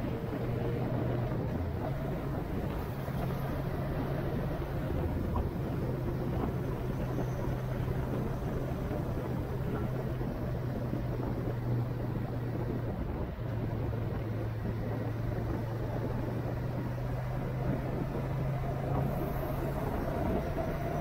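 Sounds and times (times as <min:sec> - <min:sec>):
road and wind noise: 0:00.0 - 0:21.0
vehicle engine hum: 0:00.0 - 0:21.0.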